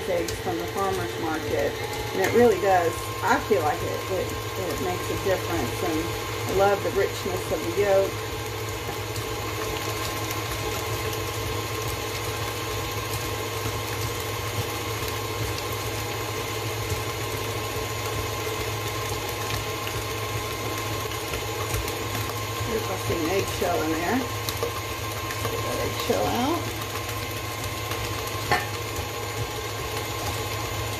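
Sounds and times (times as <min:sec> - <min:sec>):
stand mixer motor humming: 0:00.0 - 0:30.9.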